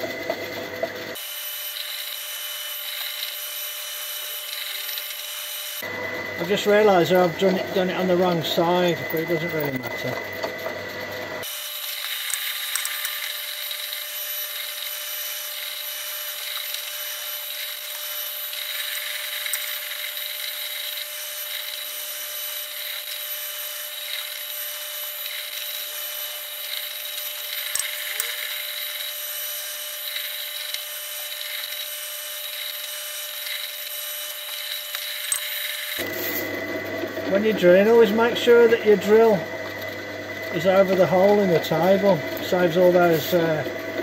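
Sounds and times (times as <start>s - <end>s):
pillar drill running: 0.0s - 44.0s
drill cutting hiss: 1.2s - 10.2s, 11.4s - 39.5s.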